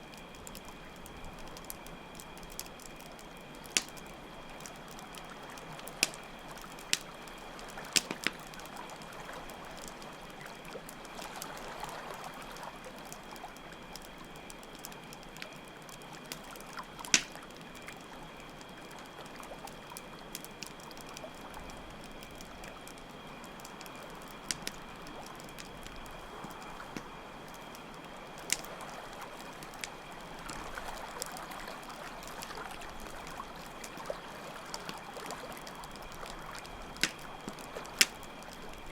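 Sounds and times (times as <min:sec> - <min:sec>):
campfire crackling: 0:00.0 - 0:38.9
crickets trilling: 0:00.0 - 0:38.9.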